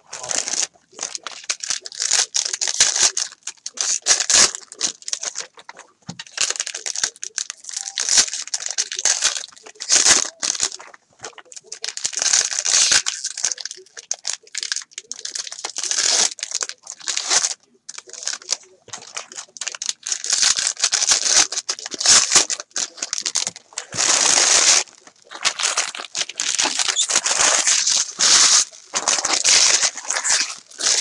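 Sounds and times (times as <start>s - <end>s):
foil wrappers tearing and crinkling: 0.1s - 31.0s.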